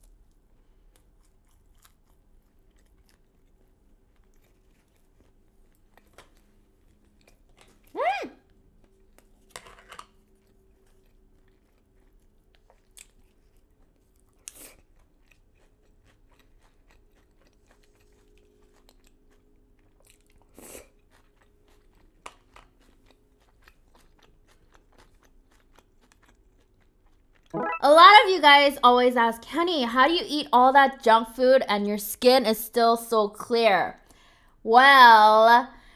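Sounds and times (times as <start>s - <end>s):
chewing crunchy fried chicken: 0.0s - 35.9s.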